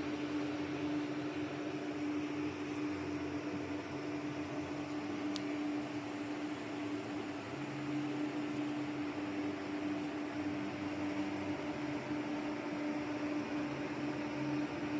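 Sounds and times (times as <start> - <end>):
welding machine humming: 0.0 - 14.9.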